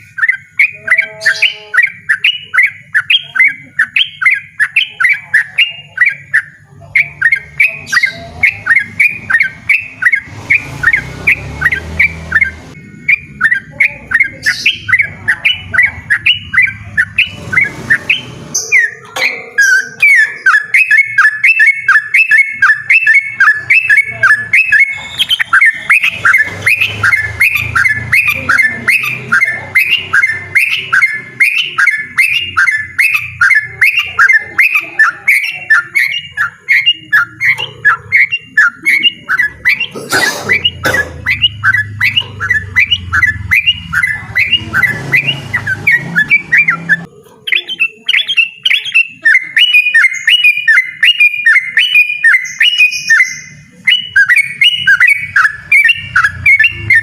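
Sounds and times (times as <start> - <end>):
bird singing repeated notes: 0.0 - 57.0.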